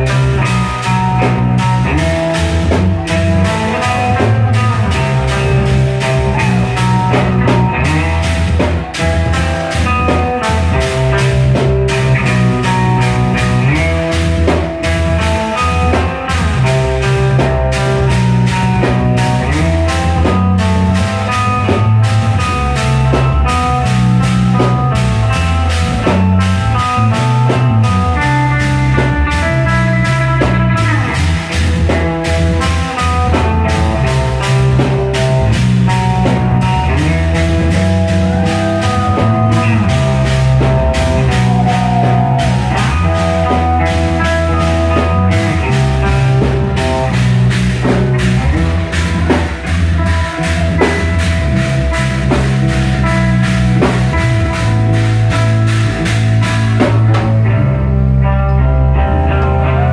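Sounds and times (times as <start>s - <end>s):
heavy bass line: 0.0s - 59.9s
rock band playing: 0.0s - 59.9s.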